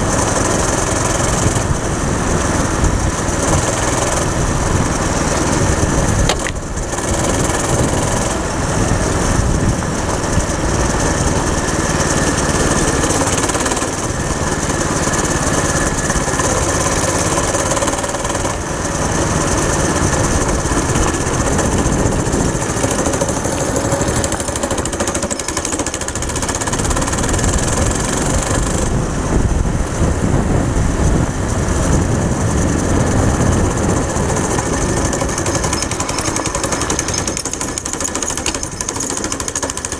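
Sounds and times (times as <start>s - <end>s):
small go-kart engine running: 0.0s - 39.9s
wind noise: 0.0s - 39.9s.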